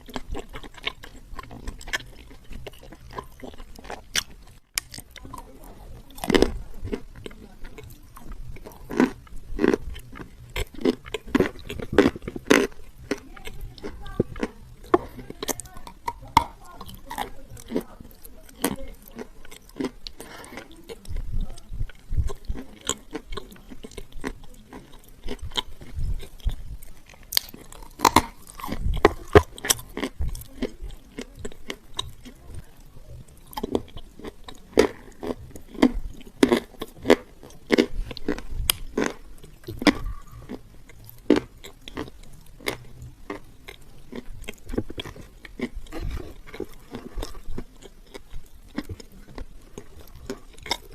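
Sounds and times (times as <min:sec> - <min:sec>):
chewing crunchy clay: 0:00.0 - 0:50.9.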